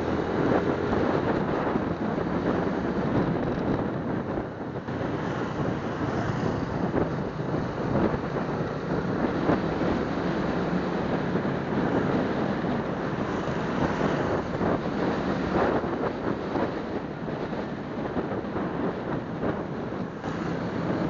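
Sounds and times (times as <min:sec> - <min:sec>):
road noise: 0:00.0 - 0:21.0
wind rushing over microphone: 0:00.0 - 0:21.0.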